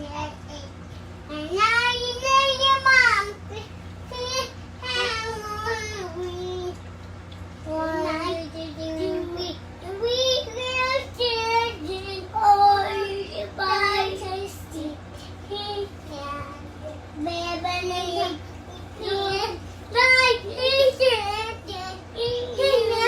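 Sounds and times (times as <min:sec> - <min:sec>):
faint low hum: 0:00.0 - 0:23.0
child singing: 0:01.3 - 0:06.8, 0:07.7 - 0:23.0.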